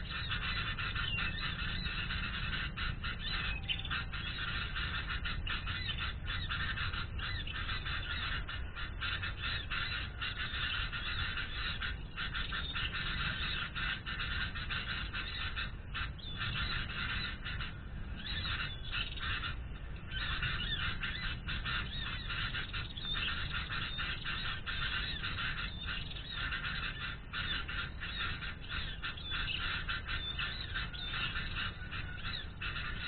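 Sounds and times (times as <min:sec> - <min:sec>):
birds chirping and chattering: 0:00.0 - 0:33.0
steady low rumble: 0:00.0 - 0:33.0.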